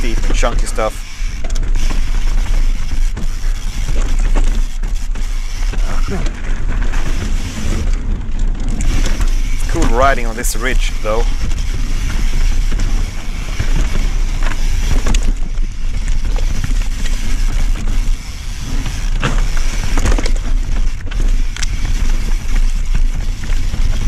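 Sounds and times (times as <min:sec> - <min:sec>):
bike knocks and rattles: 0:00.0 - 0:24.0
tyres on dirt: 0:00.0 - 0:24.0
wind buffeting microphone: 0:00.0 - 0:24.0.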